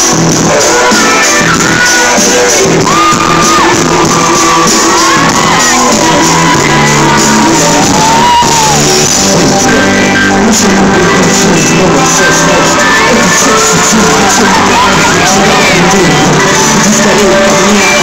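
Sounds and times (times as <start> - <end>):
crowd shouting and screaming: 0.0 - 18.0
loud live pop music: 0.0 - 18.0.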